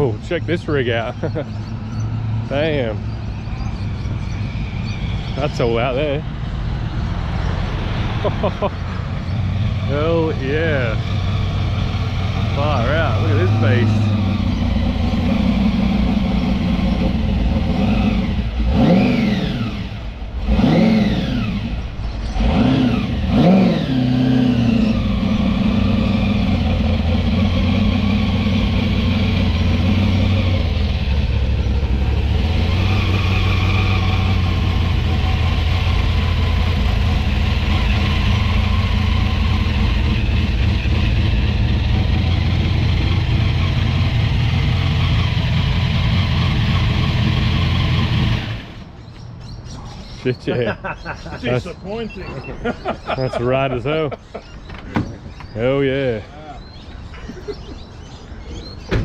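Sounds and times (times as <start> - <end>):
car engine revving and idling: 0.0 - 49.6.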